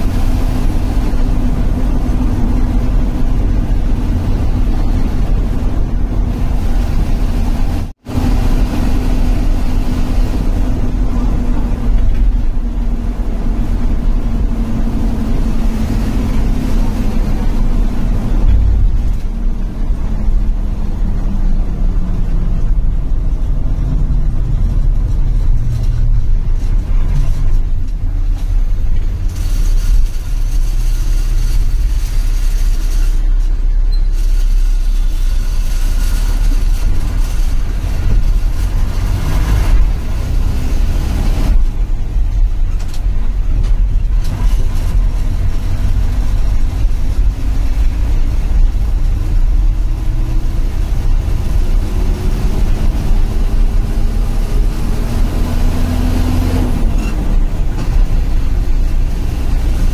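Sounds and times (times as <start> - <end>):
bus diesel engine: 0.0 - 59.9
road noise: 0.0 - 59.9.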